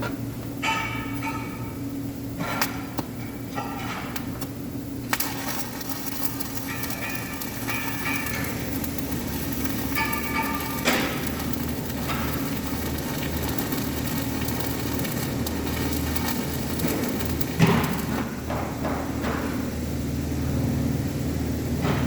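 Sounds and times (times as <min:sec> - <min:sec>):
welding arc crackling: 0:00.0 - 0:21.6
welding machine hum: 0:00.0 - 0:22.0.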